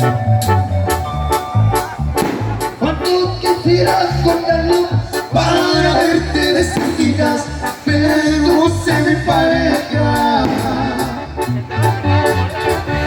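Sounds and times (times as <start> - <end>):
latin band music: 0.0 - 13.0.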